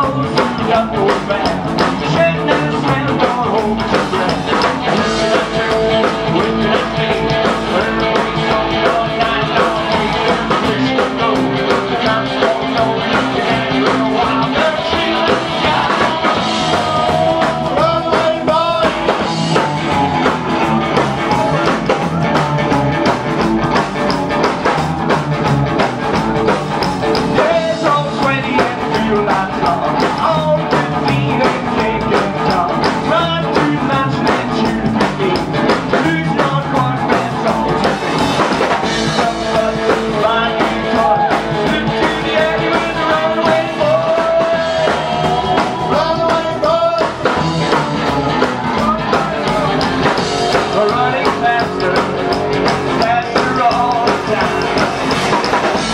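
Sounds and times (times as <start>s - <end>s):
man singing: 0.0s - 23.0s, 27.1s - 55.9s
rockabilly band playing: 0.0s - 55.9s.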